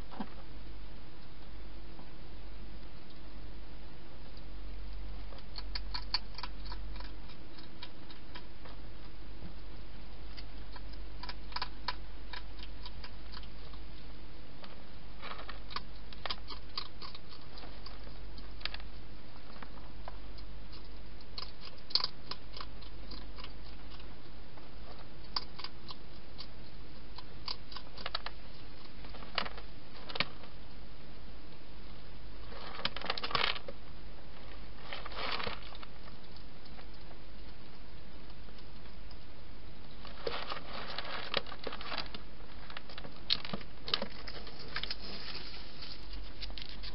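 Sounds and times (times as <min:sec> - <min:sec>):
steady low hum: 0:00.0 - 0:46.9
hedgehog crunching food: 0:04.9 - 0:30.6, 0:32.4 - 0:39.3, 0:39.9 - 0:46.9.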